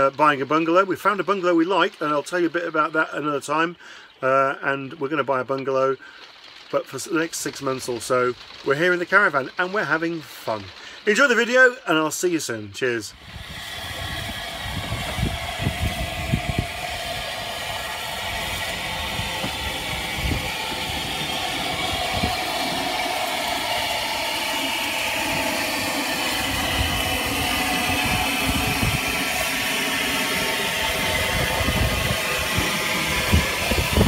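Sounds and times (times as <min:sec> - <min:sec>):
steam hissing: 0:00.0 - 0:34.0
steam locomotive rumble: 0:00.0 - 0:34.0.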